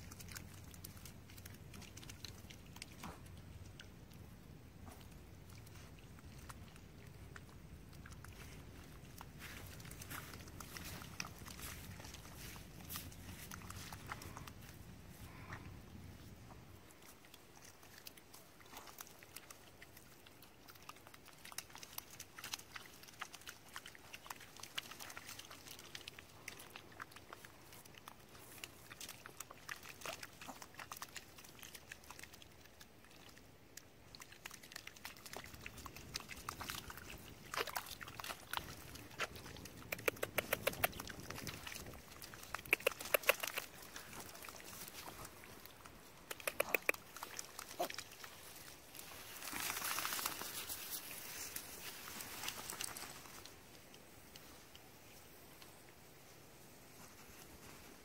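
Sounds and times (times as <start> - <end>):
squelching steps in mud: 0.0 - 15.6, 16.2 - 54.9
dogs sniffing and snorting: 0.0 - 58.0.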